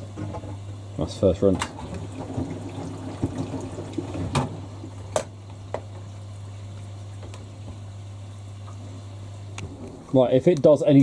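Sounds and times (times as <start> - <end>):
washing machine humming: 0.0 - 11.0.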